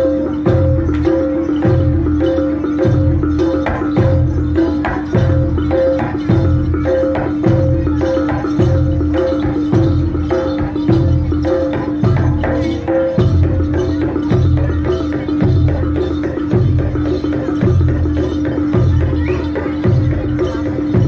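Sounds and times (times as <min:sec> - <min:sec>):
deep drum beats: 0:00.0 - 0:21.0
fast percussion: 0:00.0 - 0:21.0.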